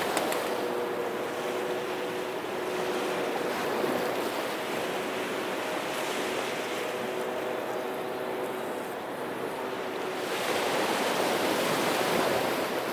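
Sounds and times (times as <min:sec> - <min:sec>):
waves washing onto shore: 0:00.0 - 0:12.9.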